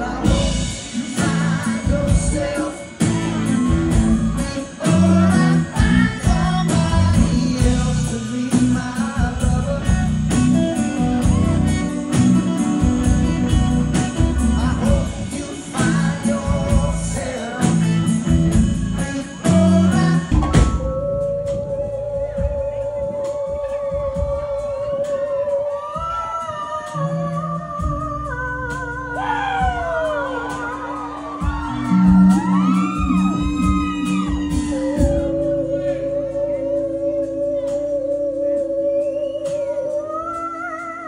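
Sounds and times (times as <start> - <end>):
drum kit beat: 0.0 - 41.0
electric guitar: 0.0 - 41.0
man singing: 0.0 - 41.0.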